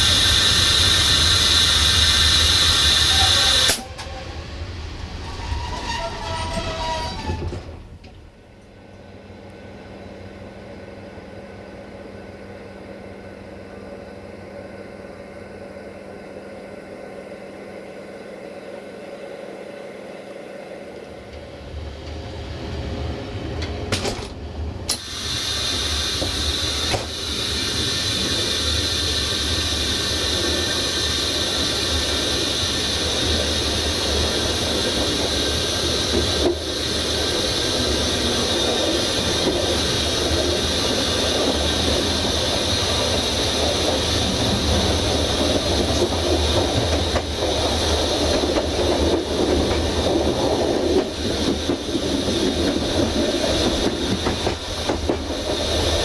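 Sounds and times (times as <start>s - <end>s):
train running noise with hiss: 0.0s - 56.0s.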